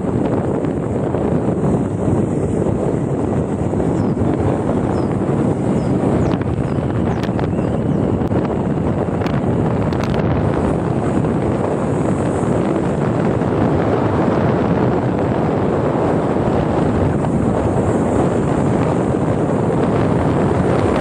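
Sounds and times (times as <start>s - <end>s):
vehicle running noise: 0.0s - 21.0s
wind rush on microphone: 0.0s - 21.0s.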